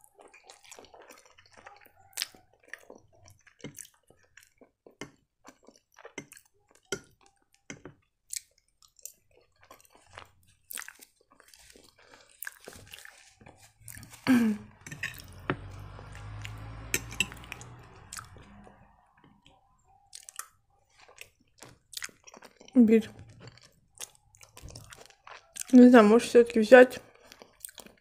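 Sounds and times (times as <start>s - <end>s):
chewing with wet mouth smacks: 0.0s - 25.9s, 27.0s - 28.0s.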